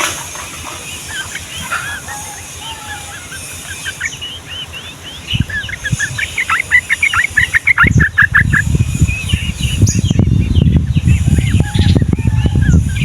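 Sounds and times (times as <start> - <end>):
bird singing rapid sharp notes: 0.0 - 13.0
loud low rumbling noise: 0.0 - 13.0.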